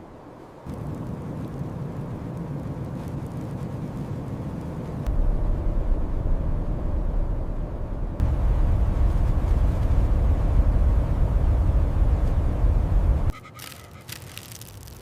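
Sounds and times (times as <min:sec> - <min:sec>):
blizzard wind rushing: 0:00.0 - 0:13.4.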